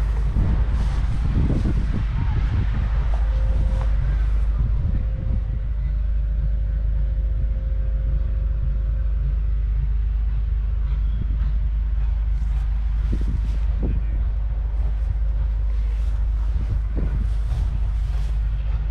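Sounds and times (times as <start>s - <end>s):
diesel engine idling: 0.0s - 8.6s, 11.6s - 18.9s.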